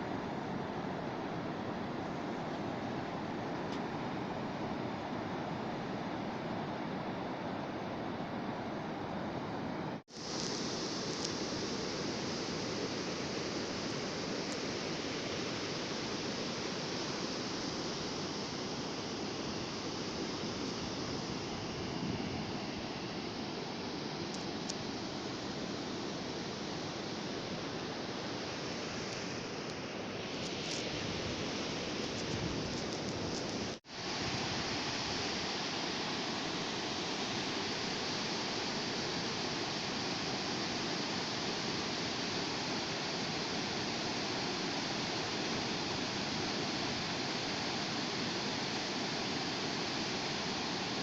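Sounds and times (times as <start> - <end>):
sea surf breaking on shore: 10.0 - 51.0.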